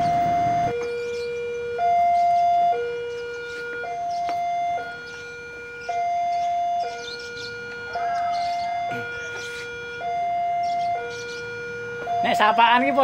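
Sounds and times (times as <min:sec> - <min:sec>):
two-tone crossing warning bell: 0:00.0 - 0:13.0.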